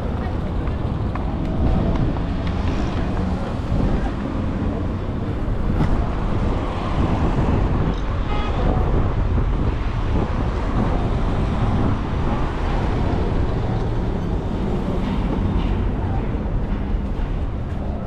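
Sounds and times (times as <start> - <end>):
traffic rumble: 0.0 - 18.0
wind buffeting microphone: 0.0 - 18.0.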